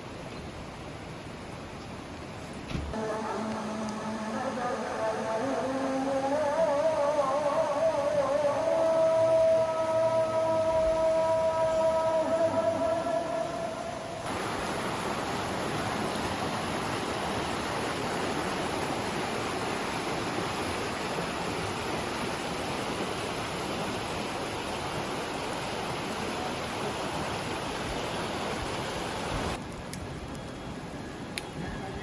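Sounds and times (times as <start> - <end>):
stream flowing: 0.0 - 32.0.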